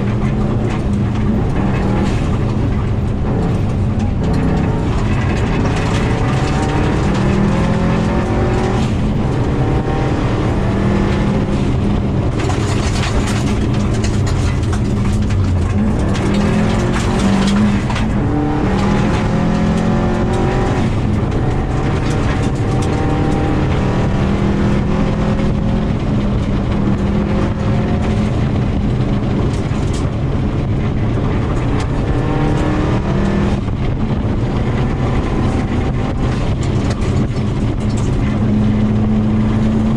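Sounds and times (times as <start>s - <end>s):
gravel and stones rattling: 0.0s - 39.9s
rally car engine revving: 0.0s - 39.9s.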